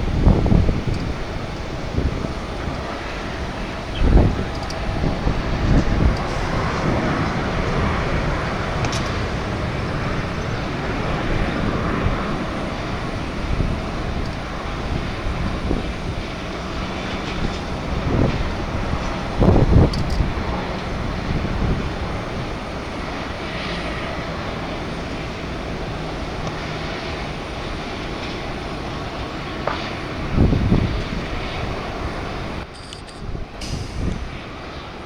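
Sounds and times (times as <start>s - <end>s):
jet aircraft rumbling: 0.0s - 35.0s
wind buffeting microphone: 0.0s - 35.0s.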